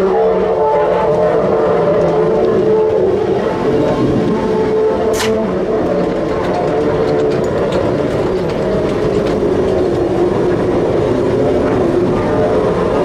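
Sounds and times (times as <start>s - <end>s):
train wheels rumbling on rail: 0.0s - 13.0s
wheels clicking on track: 0.0s - 13.0s.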